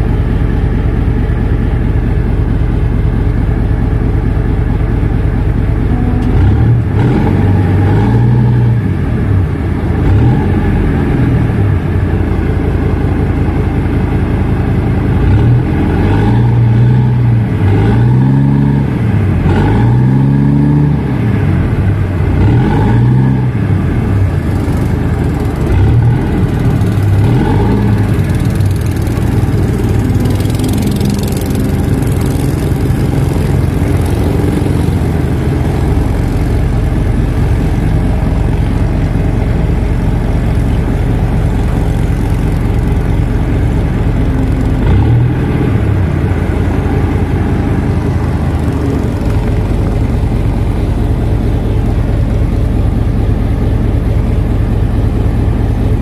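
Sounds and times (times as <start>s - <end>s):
boat diesel engine drone: 0.0s - 56.0s.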